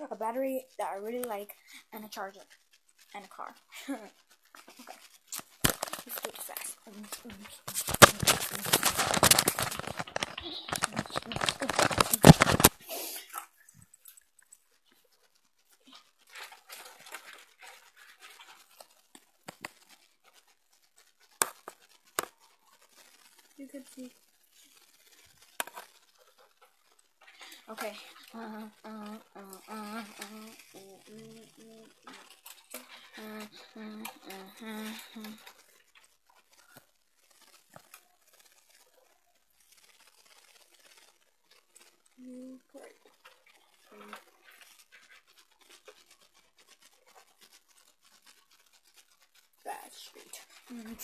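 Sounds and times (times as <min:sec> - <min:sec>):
packaging rustling: 0:02.5 - 0:51.0.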